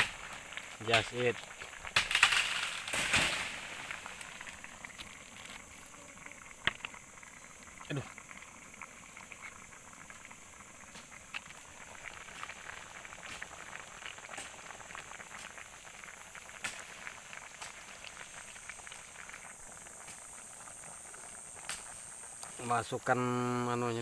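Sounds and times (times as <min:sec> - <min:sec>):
food bubbling in a pot: 0:00.0 - 0:24.0.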